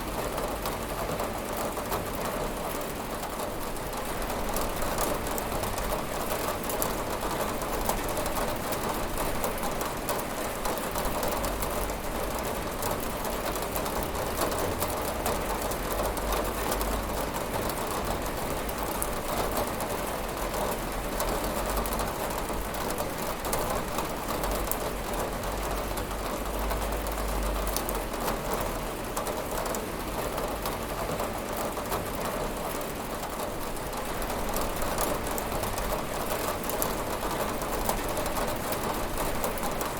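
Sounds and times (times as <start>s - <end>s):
rain tapping on a window: 0.0s - 39.9s.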